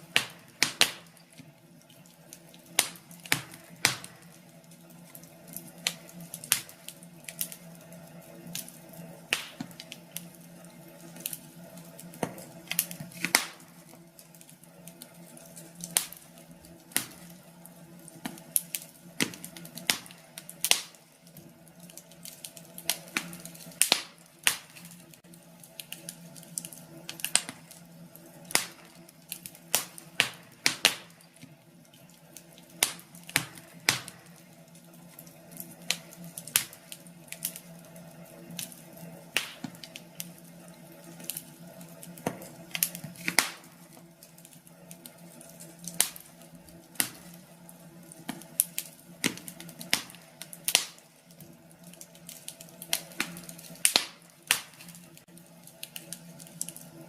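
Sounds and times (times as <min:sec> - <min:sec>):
faint steady hum: 0:00.0 - 0:57.0
fireplace fire crackling and popping: 0:00.0 - 0:57.0.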